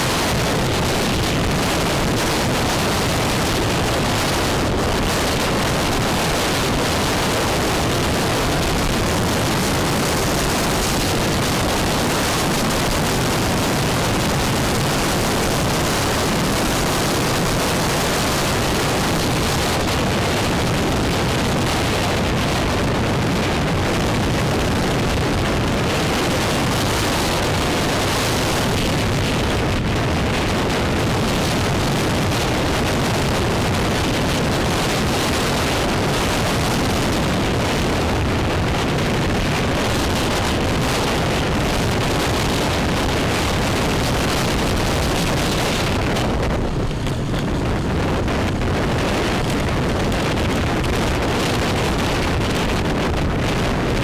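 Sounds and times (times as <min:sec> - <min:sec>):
motorbike road noise: 0:00.0 - 0:54.0
wind noise on microphone: 0:00.0 - 0:54.0.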